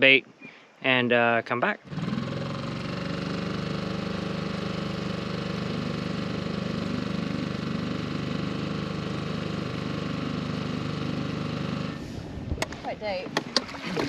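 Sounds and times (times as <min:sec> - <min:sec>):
outboard motor running: 0:01.8 - 0:14.0.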